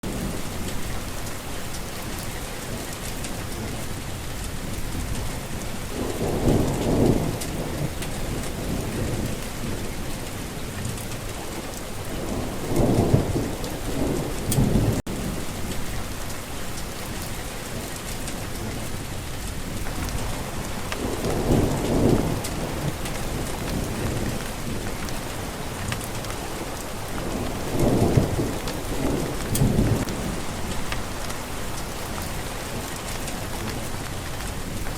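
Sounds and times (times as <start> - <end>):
distant thunder rumbling: 0.0 - 34.9
steady rain: 0.0 - 34.9.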